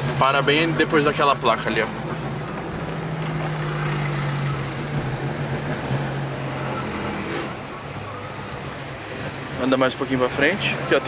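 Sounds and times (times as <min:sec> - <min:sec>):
car engine running: 0:00.0 - 0:11.0
road noise: 0:00.0 - 0:11.0.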